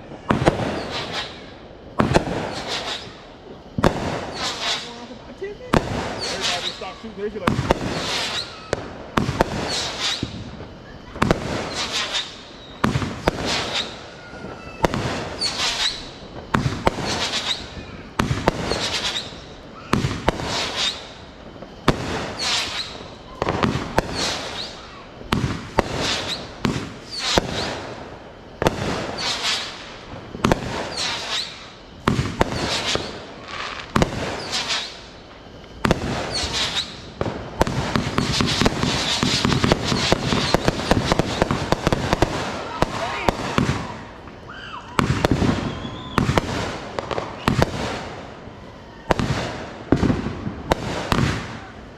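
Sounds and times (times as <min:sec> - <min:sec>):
firework bangs: 0:00.0 - 0:51.9
firework hiss and crackle: 0:00.0 - 0:51.9.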